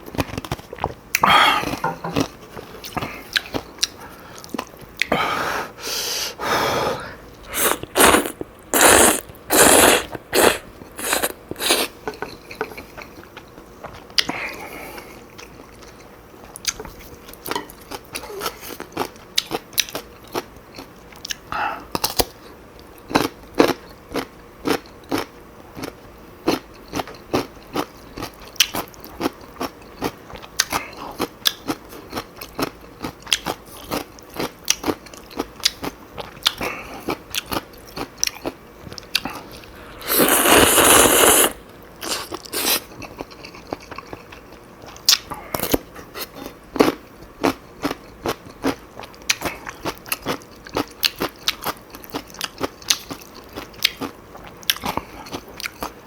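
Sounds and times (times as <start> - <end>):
crunchy chewing: 7.4 - 56.0.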